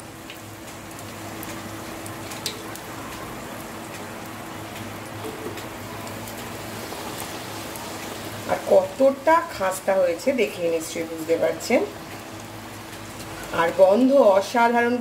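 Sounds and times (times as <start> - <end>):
food deep-frying in hot oil: 0.0 - 15.0
oil crackles: 0.1 - 14.5.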